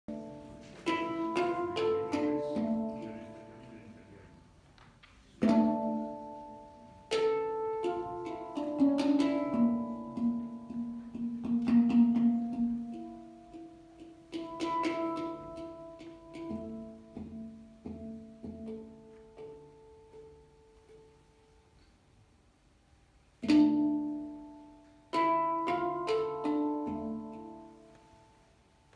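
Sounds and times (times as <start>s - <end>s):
handpan notes ringing: 0.1s - 4.2s, 5.4s - 21.7s, 23.4s - 28.9s.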